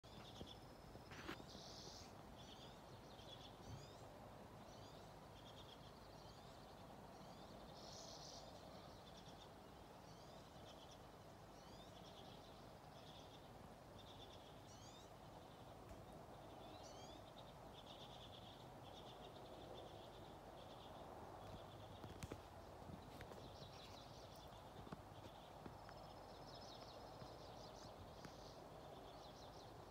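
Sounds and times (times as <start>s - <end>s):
low background hiss: 0.0s - 29.9s
songbirds chirping: 0.0s - 29.9s.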